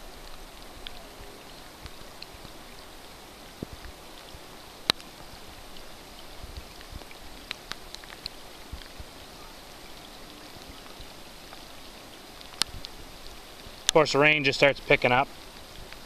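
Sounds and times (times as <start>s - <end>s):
raindrops ticking close by: 0.0s - 16.0s
river flowing: 0.0s - 16.0s.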